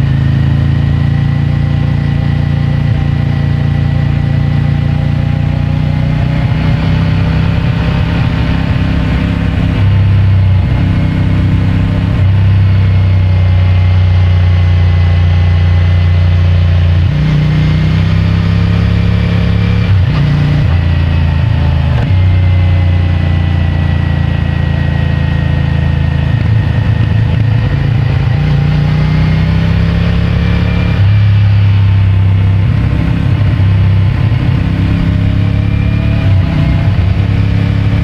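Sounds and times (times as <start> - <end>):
muffled motorcycle engine revving: 0.0 - 38.0.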